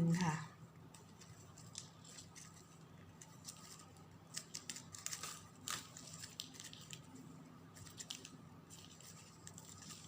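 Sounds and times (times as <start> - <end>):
ribbon rustling and clicking: 0.9 - 10.0.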